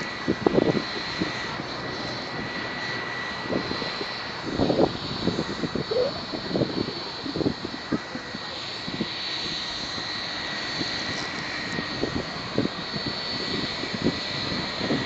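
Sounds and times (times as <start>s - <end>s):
distant jet airliner whine: 0.0s - 15.0s
low rumbling gusts: 0.0s - 15.0s.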